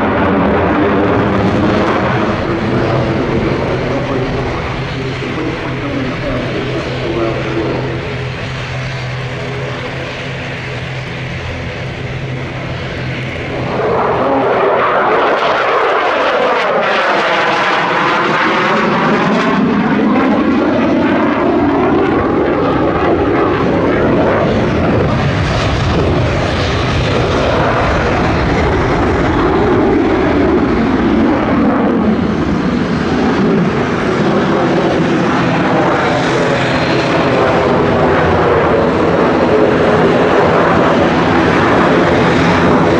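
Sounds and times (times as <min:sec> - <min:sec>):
jet engine passing: 0:00.0 - 0:42.9.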